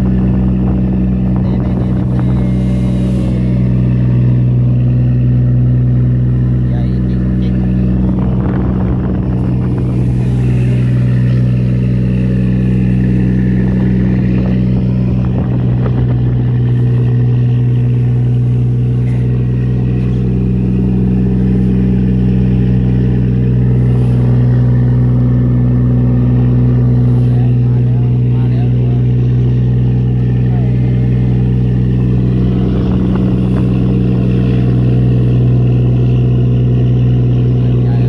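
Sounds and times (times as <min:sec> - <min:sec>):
boat engine droning: 0:00.0 - 0:38.0
water splashing along hull: 0:00.0 - 0:38.0.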